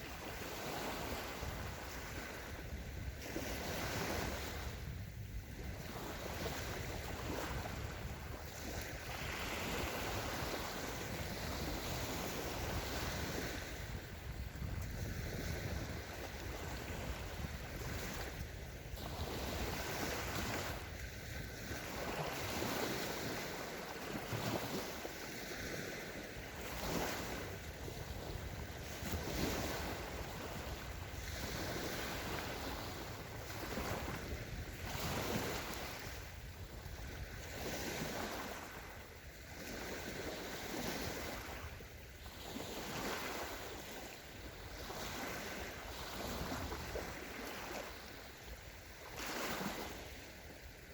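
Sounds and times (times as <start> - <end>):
waves washing onto sandy shore: 0.0 - 50.9
wind rumble on microphone: 0.0 - 50.9.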